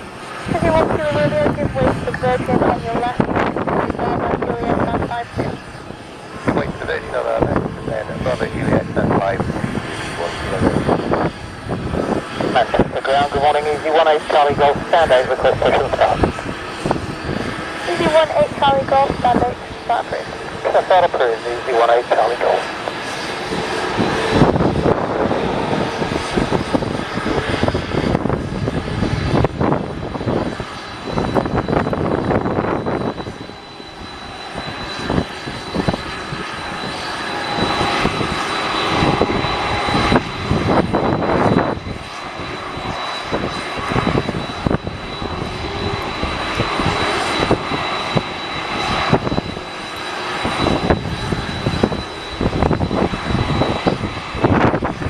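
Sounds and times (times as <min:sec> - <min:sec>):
high-pitched engine whine: 0:00.0 - 0:55.0
jet engines rumbling: 0:00.0 - 0:55.0.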